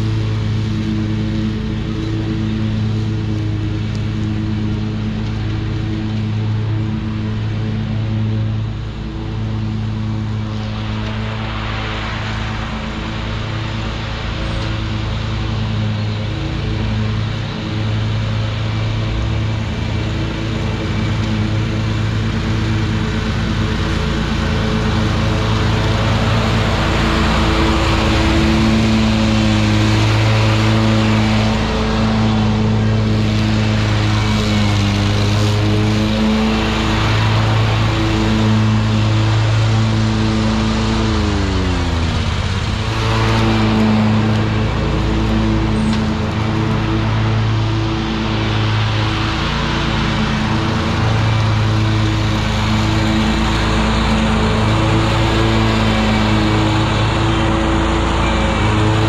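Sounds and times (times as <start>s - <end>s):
mower engine running: 0.0s - 59.0s.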